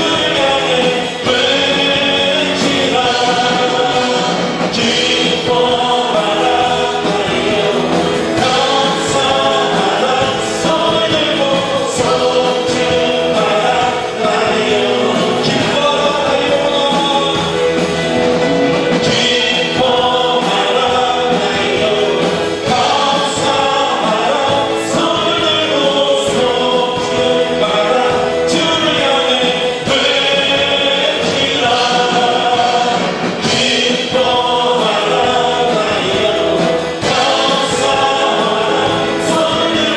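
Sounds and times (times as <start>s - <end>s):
group singing worship song: 0.0s - 39.9s
musical accompaniment: 0.0s - 39.9s.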